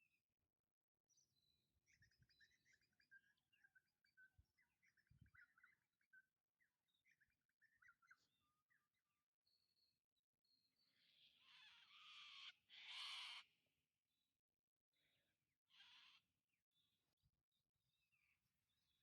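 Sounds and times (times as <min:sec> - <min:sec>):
faint birdsong chirps: 0:00.0 - 0:19.0.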